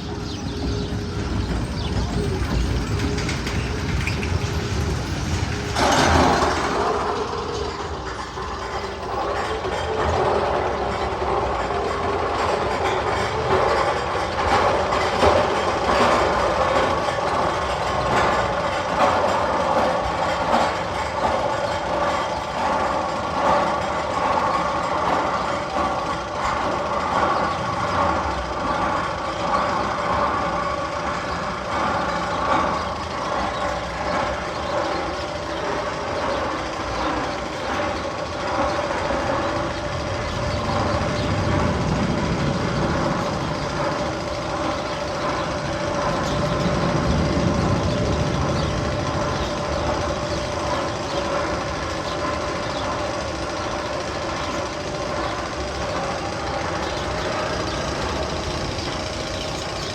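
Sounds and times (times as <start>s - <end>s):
mechanical rumble with hiss: 0.0s - 59.9s
roller coaster clattering on track: 0.0s - 59.9s.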